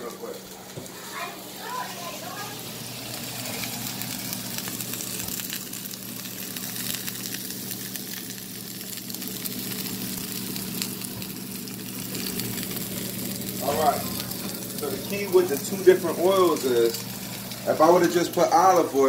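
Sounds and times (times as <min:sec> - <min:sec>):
exhaust fan humming: 0:00.0 - 0:19.0
steak sizzling in a pan: 0:00.1 - 0:19.0.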